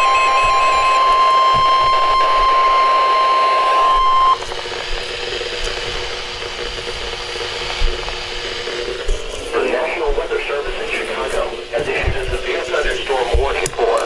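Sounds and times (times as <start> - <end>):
steady alarm tone: 0.0 - 13.6
radio hiss: 0.0 - 14.0.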